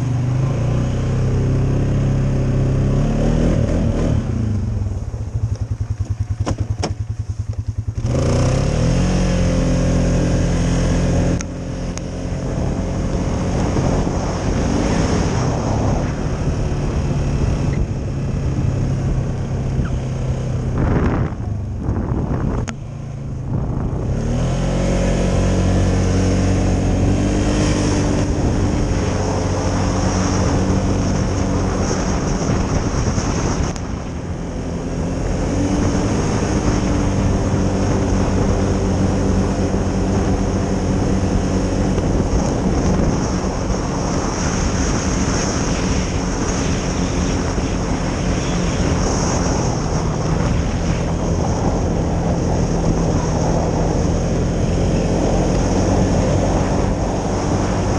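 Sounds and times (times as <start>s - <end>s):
engine puttering and revving: 0.0s - 57.9s.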